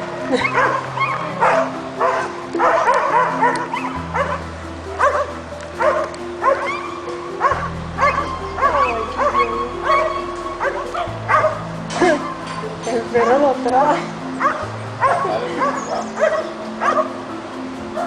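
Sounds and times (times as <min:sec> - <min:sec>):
background music with low notes: 0:00.0 - 0:18.0
dog-like yipping calls: 0:00.3 - 0:12.6, 0:14.4 - 0:17.2.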